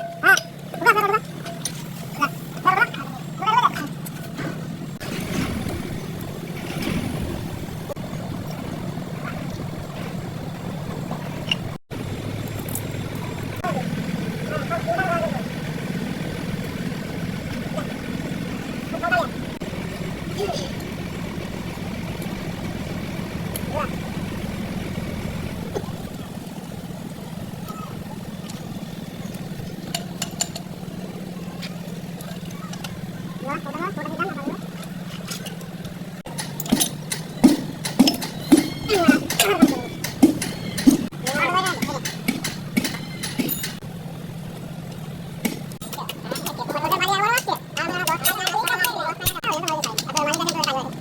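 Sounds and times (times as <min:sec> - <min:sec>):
diesel truck engine idling: 0:00.0 - 0:51.0.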